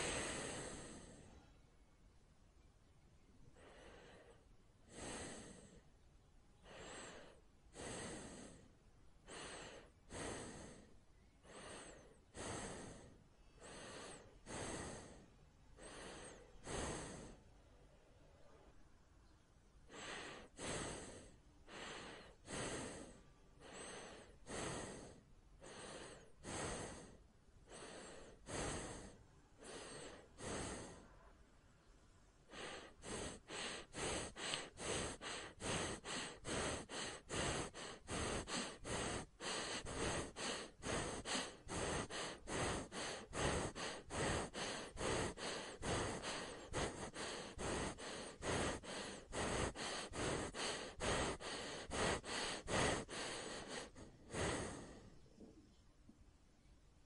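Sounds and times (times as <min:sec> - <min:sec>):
person breathing: 0:00.0 - 0:02.0, 0:02.6 - 0:55.7.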